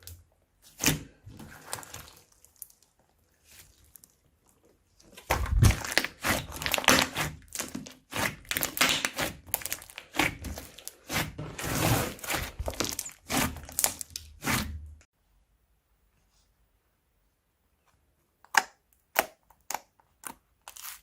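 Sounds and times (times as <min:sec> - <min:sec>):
crunchy slime squished by hand: 0:00.0 - 0:14.9, 0:19.0 - 0:21.0.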